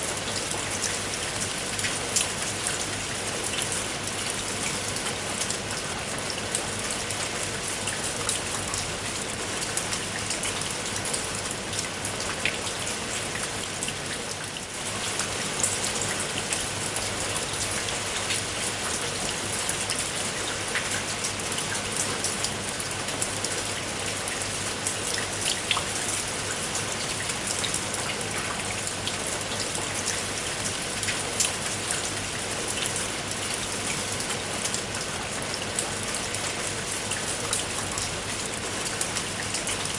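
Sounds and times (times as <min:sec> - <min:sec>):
raindrops pattering on a surface: 0:00.0 - 0:39.9.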